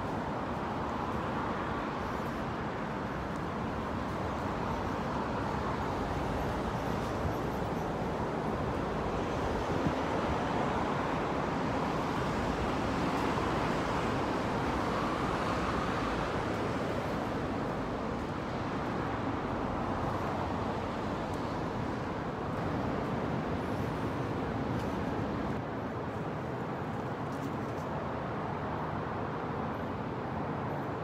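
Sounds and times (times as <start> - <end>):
city road traffic: 0.0 - 31.0.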